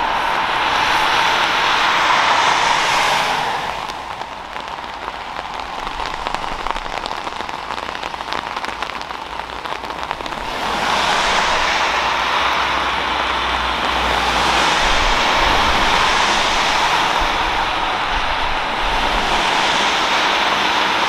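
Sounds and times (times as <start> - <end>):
heavy rain on hard surface: 0.0 - 21.0
steady rushing noise: 0.0 - 21.0.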